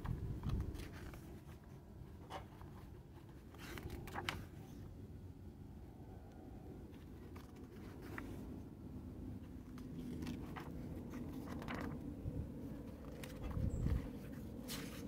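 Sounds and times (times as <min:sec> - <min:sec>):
paper pages turning: 0:00.0 - 0:04.9, 0:06.9 - 0:15.0
low background hum: 0:00.0 - 0:15.0.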